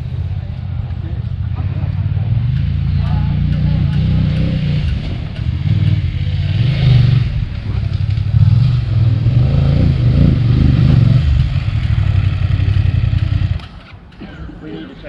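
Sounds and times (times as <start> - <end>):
motorcycle engine misfiring: 0.0 - 14.6.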